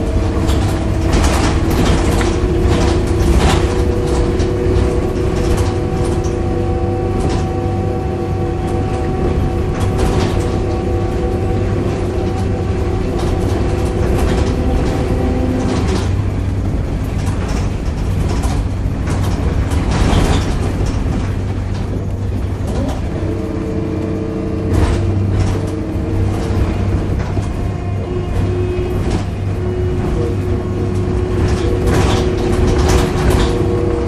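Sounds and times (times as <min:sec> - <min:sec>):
bus diesel engine droning: 0:00.0 - 0:34.0
rattles and knocks: 0:00.0 - 0:34.0
steady pitched groan: 0:00.0 - 0:34.0.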